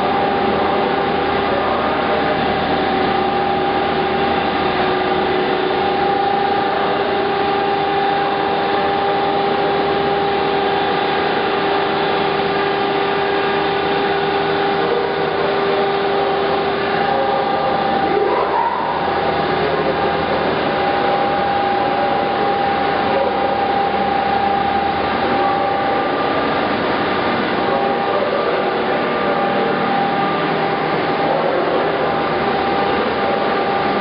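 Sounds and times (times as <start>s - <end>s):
grinder machine humming: 0.0s - 34.0s
two-tone machine whine: 0.0s - 34.0s.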